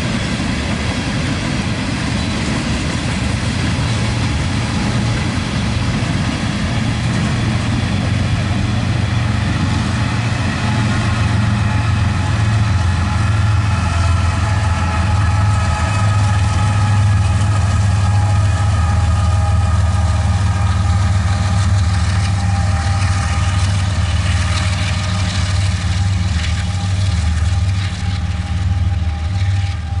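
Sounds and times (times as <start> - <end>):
diesel locomotive engine drone: 0.0 - 30.0
freight train rolling past: 0.0 - 30.0.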